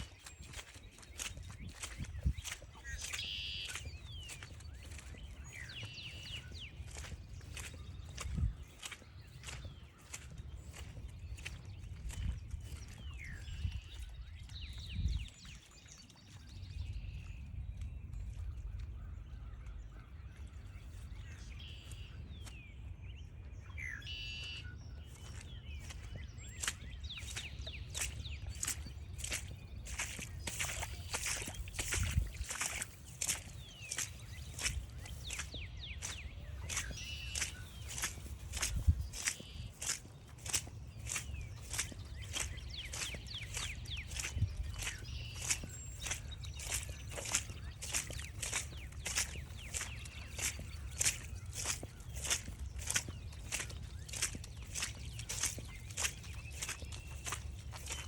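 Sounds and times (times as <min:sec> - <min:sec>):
footsteps on forest trail: 0:00.0 - 0:58.0
songbirds chirping: 0:00.0 - 0:58.0.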